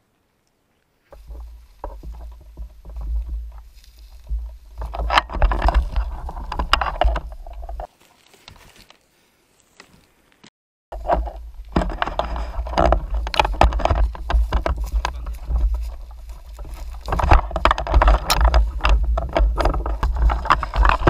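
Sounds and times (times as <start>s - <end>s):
rustling through undergrowth: 0.4s - 21.0s.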